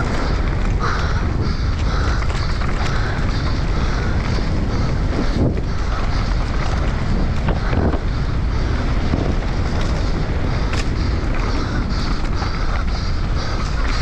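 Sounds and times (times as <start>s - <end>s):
bike knocking and rattling: 0.0s - 14.0s
bike tyres rumbling on dirt: 0.0s - 14.0s
wind buffeting microphone: 0.0s - 14.0s.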